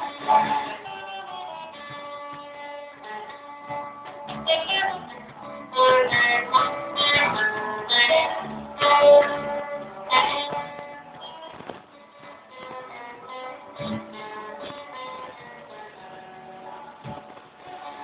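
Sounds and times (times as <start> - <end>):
guitar plucked and strummed: 0.0 - 18.0.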